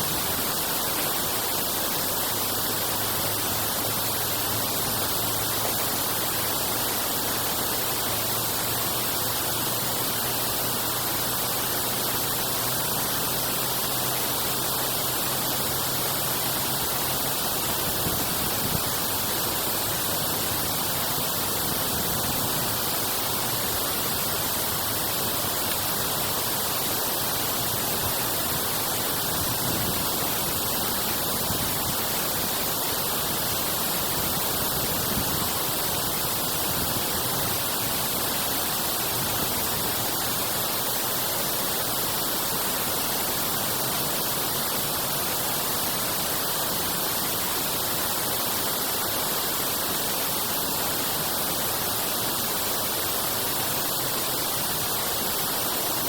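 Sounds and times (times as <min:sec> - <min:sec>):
water rushing through drainage: 0:00.0 - 0:56.0.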